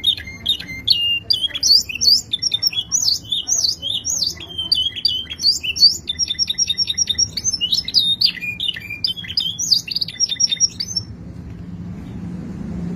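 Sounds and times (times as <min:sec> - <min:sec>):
canary singing trills: 0:00.0 - 0:11.1.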